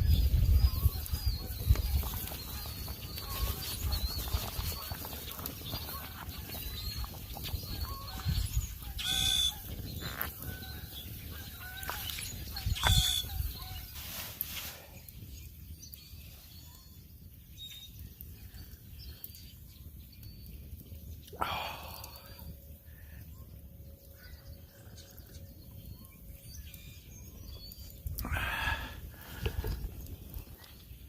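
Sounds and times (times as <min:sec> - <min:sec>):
harsh bird calls: 0:00.0 - 0:16.8, 0:21.2 - 0:31.0
wild birds chirping: 0:00.0 - 0:31.0.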